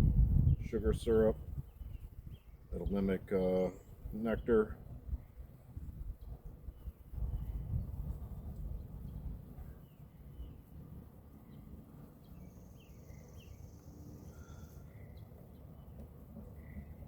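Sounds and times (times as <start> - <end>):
low wind rumble: 0.0 - 17.0
birds chirping: 0.4 - 8.0, 8.7 - 17.0.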